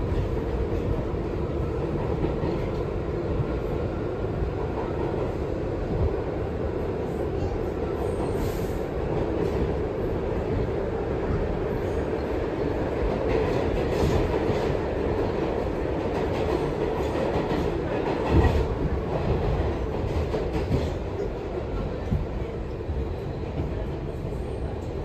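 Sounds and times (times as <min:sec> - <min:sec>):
subway train rumbling in tunnel: 0:00.0 - 0:25.0.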